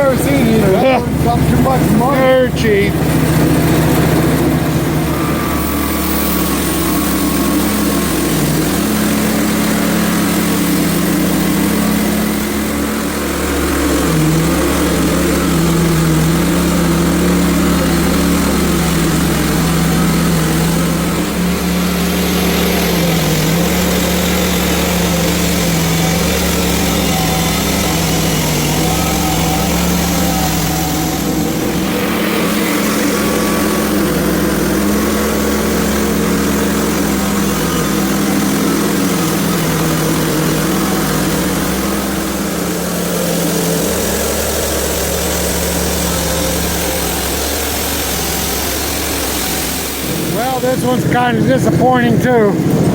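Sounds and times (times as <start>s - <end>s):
band blade sawing through log: 0.0s - 52.9s
sawmill engine running: 0.0s - 52.9s.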